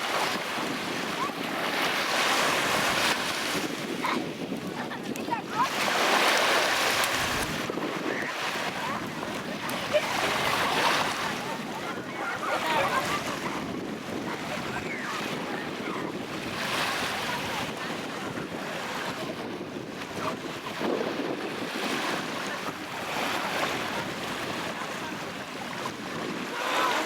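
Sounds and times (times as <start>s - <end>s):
waves breaking on beach: 0.0s - 27.0s.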